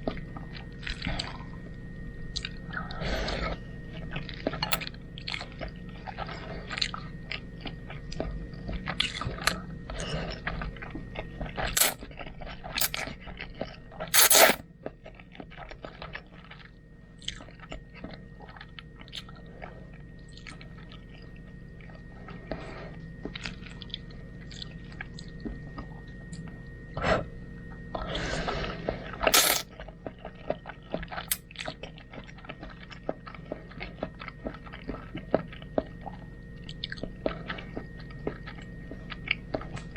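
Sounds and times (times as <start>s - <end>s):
chewing and biting food: 0.0s - 39.9s
faint steady whine: 0.0s - 39.9s.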